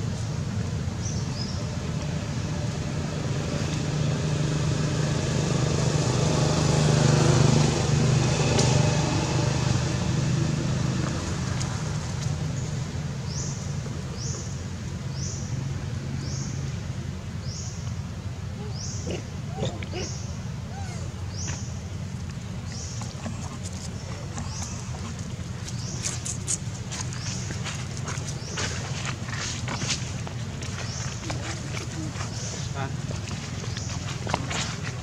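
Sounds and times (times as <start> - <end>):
vehicle engine hum: 0.0 - 35.0.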